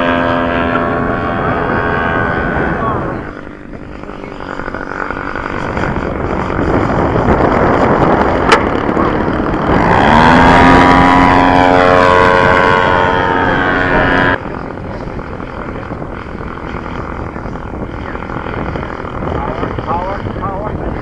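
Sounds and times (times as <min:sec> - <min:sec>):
model aeroplane engine passing: 0:00.0 - 0:21.0
wind buffeting microphone: 0:00.0 - 0:21.0.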